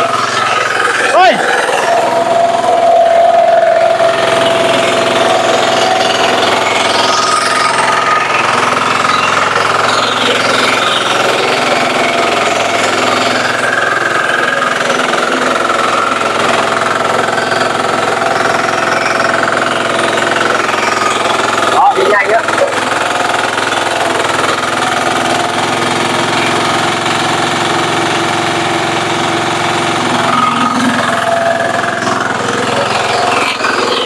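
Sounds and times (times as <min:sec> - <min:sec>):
flail mower rattling: 0:00.0 - 0:34.0.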